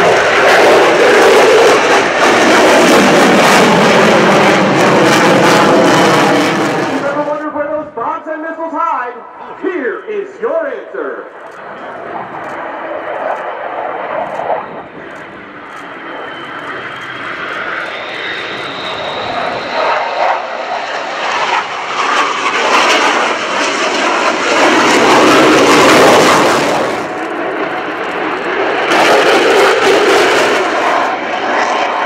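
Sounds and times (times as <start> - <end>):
jet fighter roaring past: 0.0 - 32.0.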